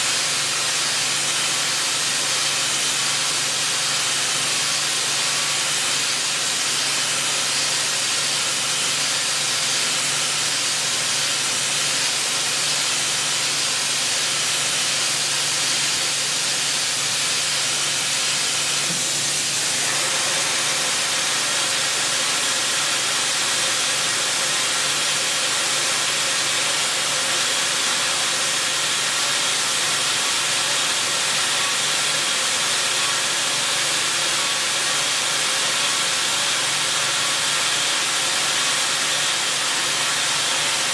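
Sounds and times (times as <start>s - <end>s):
milling machine hiss: 0.0s - 40.9s.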